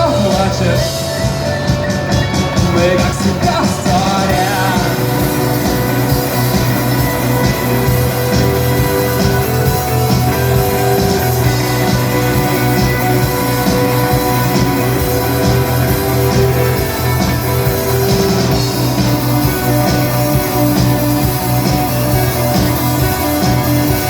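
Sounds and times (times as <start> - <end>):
instrumental rock music: 0.0 - 24.0.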